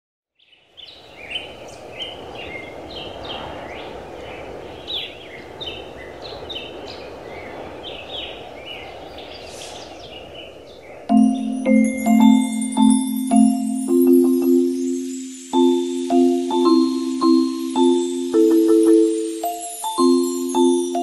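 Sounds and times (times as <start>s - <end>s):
birds chirping: 0.4s - 21.0s.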